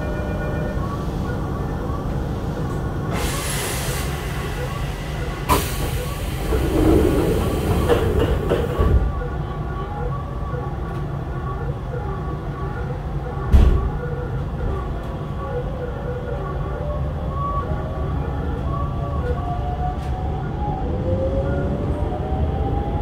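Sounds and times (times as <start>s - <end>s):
train interior low hum: 0.0s - 23.0s.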